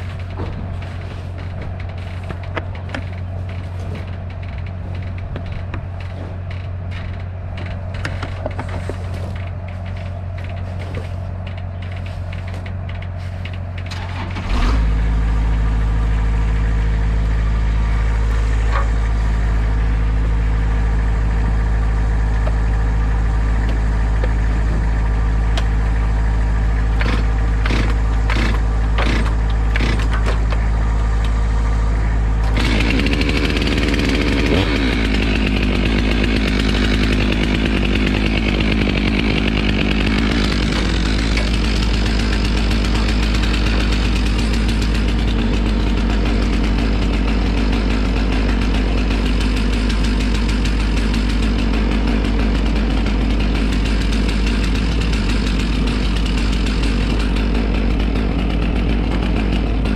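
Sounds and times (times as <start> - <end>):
chainsaw running: 0.0 - 59.9
engine idling: 0.0 - 59.9.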